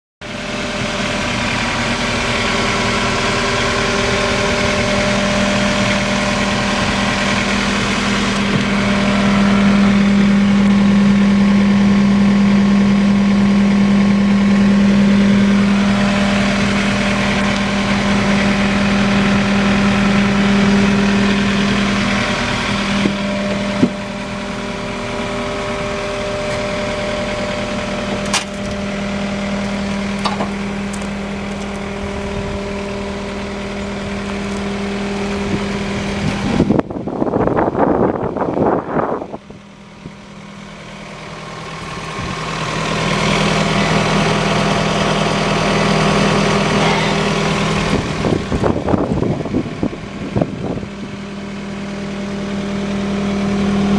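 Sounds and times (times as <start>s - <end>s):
diesel engine idling: 0.2s - 53.9s.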